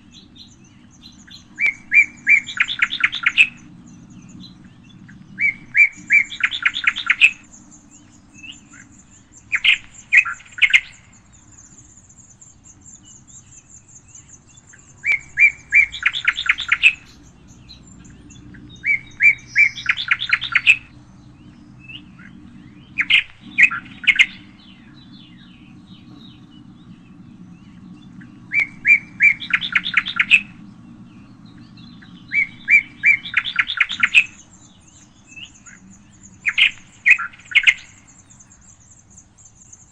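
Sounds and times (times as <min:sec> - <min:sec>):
faint low hum: 0:00.0 - 0:39.9
songbird singing trill phrase: 0:00.0 - 0:39.9
thin high bird trill: 0:00.0 - 0:39.9.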